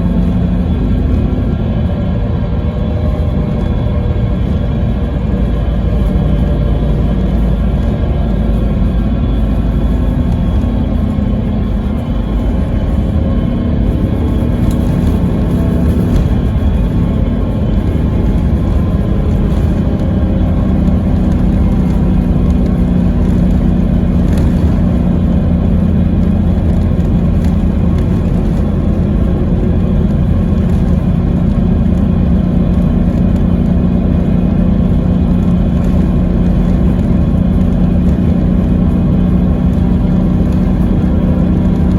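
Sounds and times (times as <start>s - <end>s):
diesel coach engine droning: 0.0s - 41.9s
road noise: 0.0s - 41.9s.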